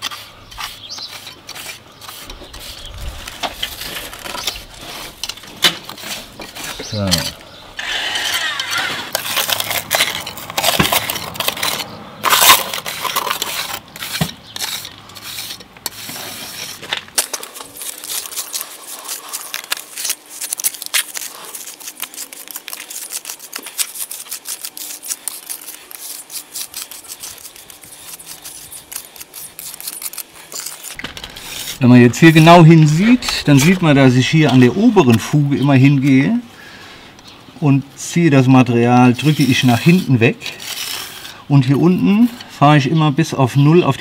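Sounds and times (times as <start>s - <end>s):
jointing iron scraping mortar: 0.0s - 35.5s.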